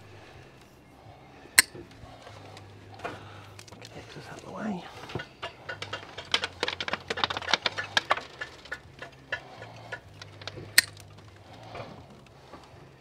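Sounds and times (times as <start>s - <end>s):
cables rustling and clicking: 1.6s - 13.0s.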